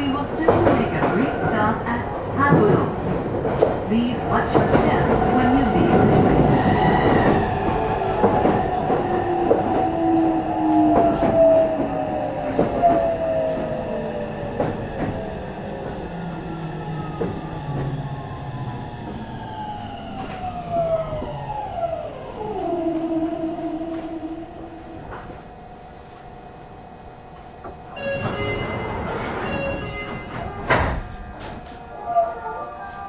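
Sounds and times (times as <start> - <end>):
train motor and inverter whine: 3.9 - 33.0.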